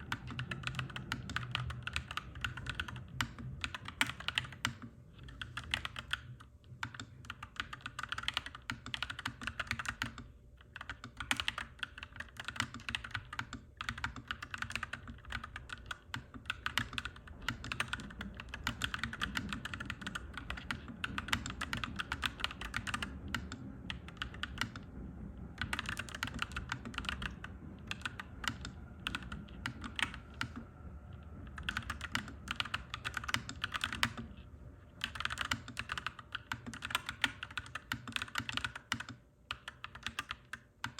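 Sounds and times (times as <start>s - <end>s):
mechanical keyboard typing: 0.0s - 24.9s, 25.6s - 30.7s, 31.4s - 34.4s, 35.0s - 40.9s.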